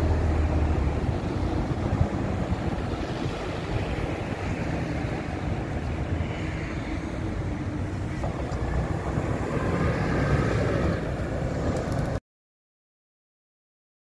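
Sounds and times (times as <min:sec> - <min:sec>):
bus driving past: 0:00.0 - 0:12.2.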